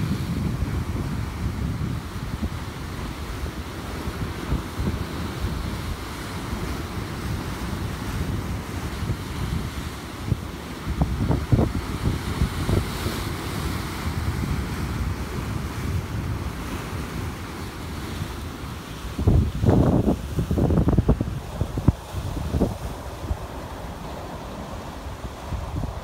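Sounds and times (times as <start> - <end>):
sea surf breaking on rocks: 0.0 - 26.0
wind on microphone: 0.0 - 26.0.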